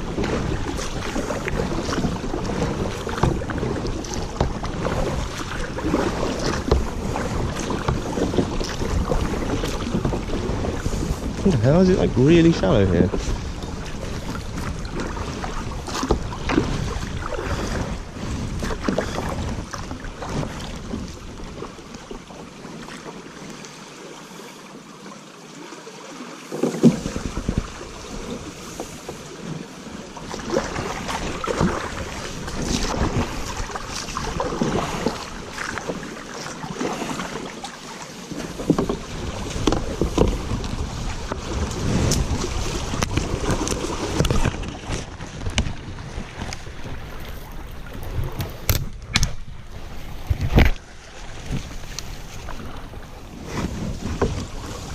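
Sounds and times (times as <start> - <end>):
wind buffeting the microphone: 0.0 - 21.8, 26.9 - 28.8, 30.4 - 35.9, 38.4 - 54.9
paddle splashes and knocks: 0.0 - 54.9.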